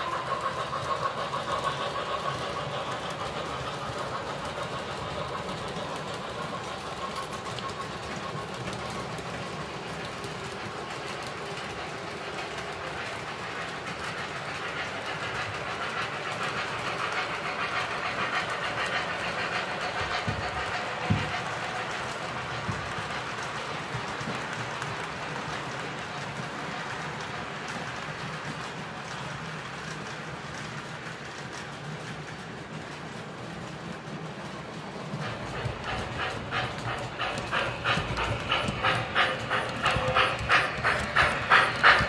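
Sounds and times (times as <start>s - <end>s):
model train wheels clattering: 0.0s - 42.0s.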